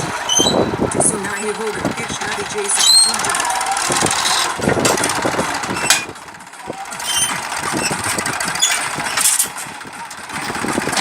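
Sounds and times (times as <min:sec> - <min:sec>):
tractor diesel engine clattering: 0:00.0 - 0:11.0.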